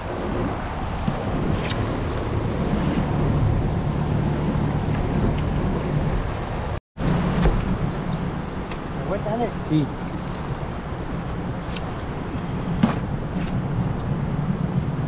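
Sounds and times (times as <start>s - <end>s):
boat motor humming: 0.0s - 15.0s
wind noise on microphone: 0.0s - 15.0s.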